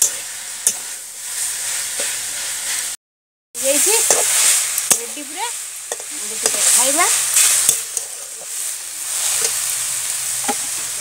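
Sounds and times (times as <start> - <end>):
metal spatula scraping a pan: 0.0 - 2.9, 3.6 - 9.8
greens sizzling in a pan: 0.0 - 3.0, 3.6 - 11.0.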